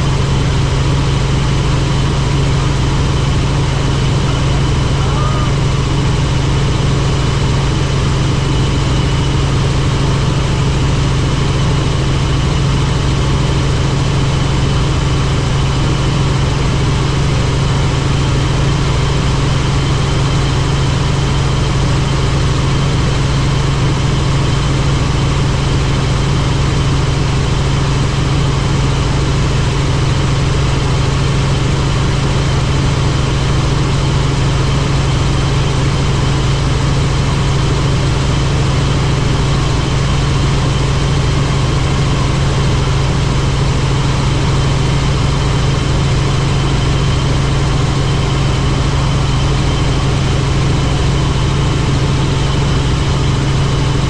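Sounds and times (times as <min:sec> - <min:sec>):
helicopter rotor drone: 0:00.0 - 0:54.0
turbine high whine: 0:00.0 - 0:54.0.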